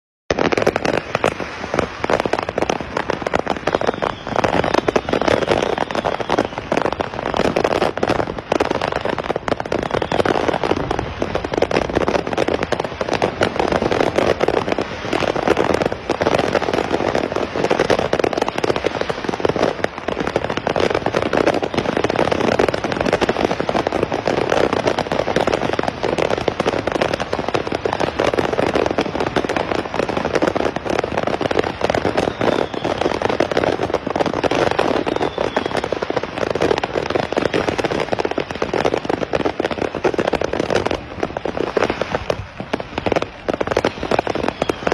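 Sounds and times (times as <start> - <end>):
fireworks bangs and crackling: 0.3 - 44.9.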